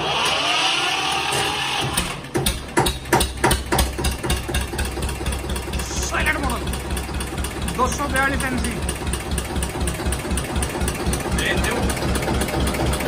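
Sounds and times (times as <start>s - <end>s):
starter motor cranking: 0.0s - 13.0s
diesel engine idling: 1.8s - 13.0s.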